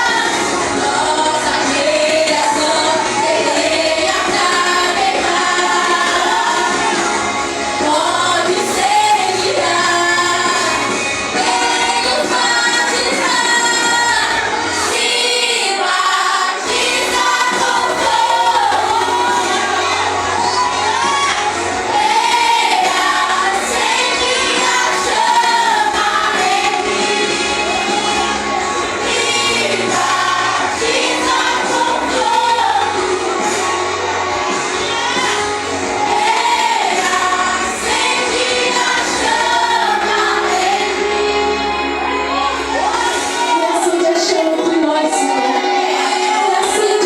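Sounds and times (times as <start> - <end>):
group singing worship song: 0.0 - 47.0
musical accompaniment: 0.0 - 47.0.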